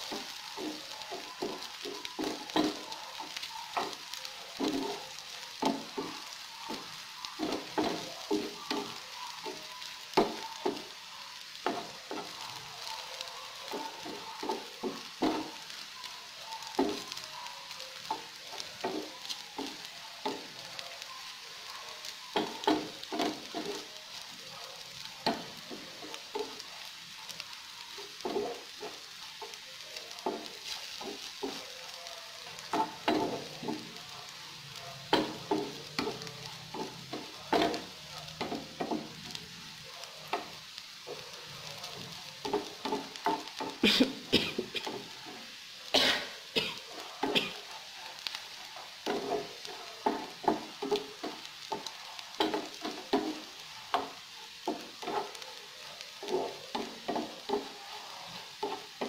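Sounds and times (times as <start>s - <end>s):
sausage sizzling in oil: 0.0s - 59.0s.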